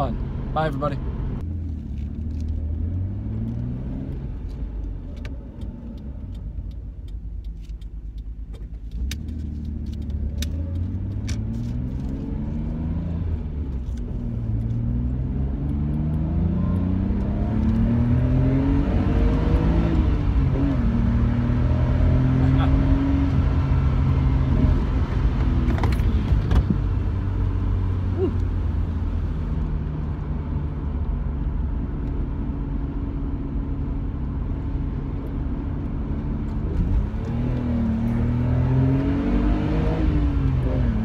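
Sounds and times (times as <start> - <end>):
car engine accelerating through gears: 0.0 - 41.0.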